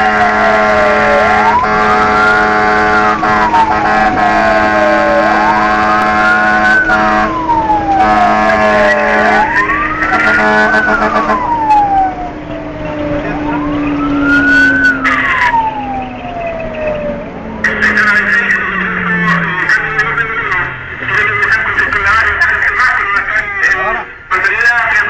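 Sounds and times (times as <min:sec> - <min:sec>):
fire engine siren wailing: 0:00.0 - 0:25.0.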